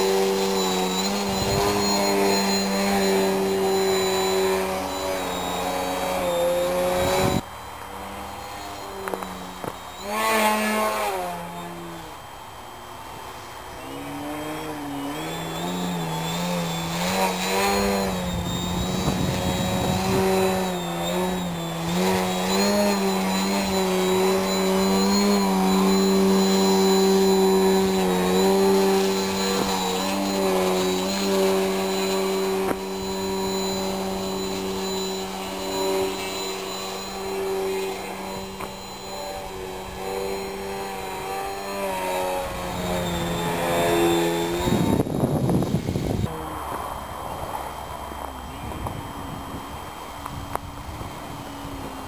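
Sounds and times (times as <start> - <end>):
model plane motor buzzing: 0.0 - 52.0.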